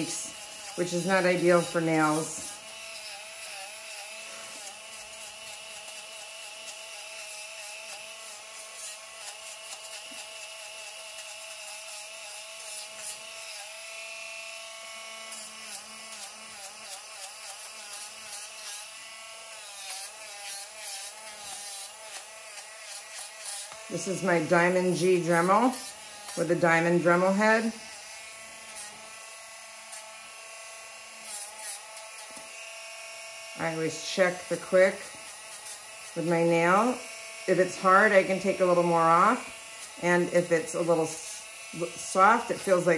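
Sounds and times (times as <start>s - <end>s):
rotary nail grinder whining: 0.0s - 42.9s.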